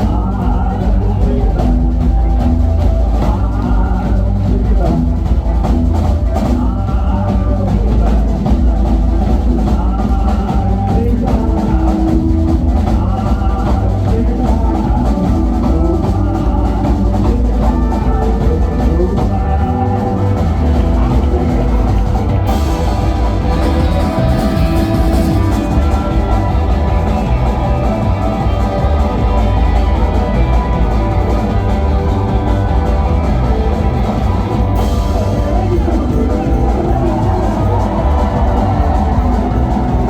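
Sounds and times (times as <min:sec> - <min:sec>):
drum kit beat: 0:00.0 - 0:40.0
live country band playing: 0:00.0 - 0:40.0.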